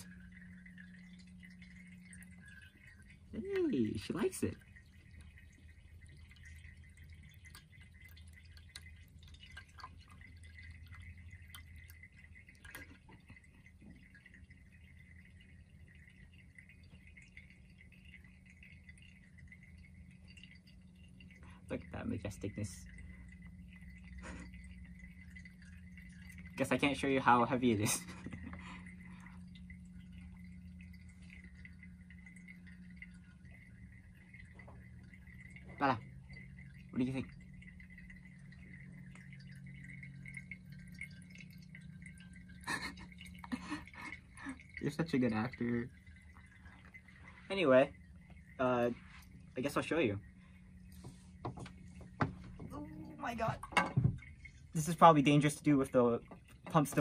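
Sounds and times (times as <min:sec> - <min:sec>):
pump humming: 0:00.0 - 0:57.0
water trickling and dripping: 0:00.0 - 0:57.0.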